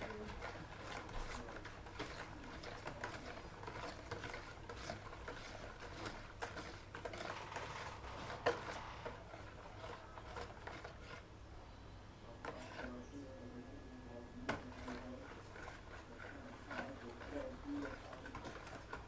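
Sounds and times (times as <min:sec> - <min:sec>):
utensil scraping a bowl: 0:00.0 - 0:11.3, 0:12.3 - 0:19.0.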